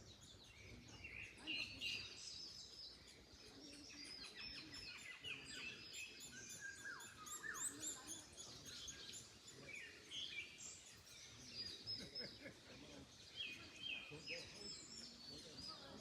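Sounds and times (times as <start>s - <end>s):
birds singing and chirping: 0.0s - 16.0s
wind rustling in trees: 0.0s - 16.0s.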